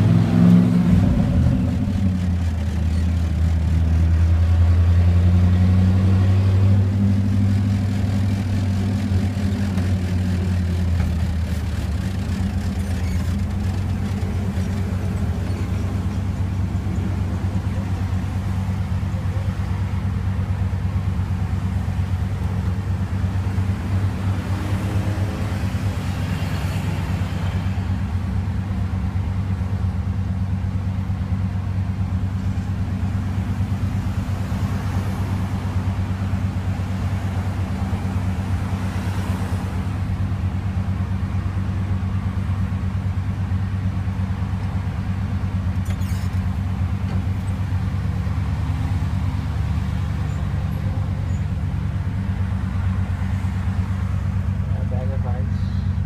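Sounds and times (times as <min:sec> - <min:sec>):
car engine and road noise: 0:00.0 - 0:56.0
passing traffic: 0:00.0 - 0:56.0.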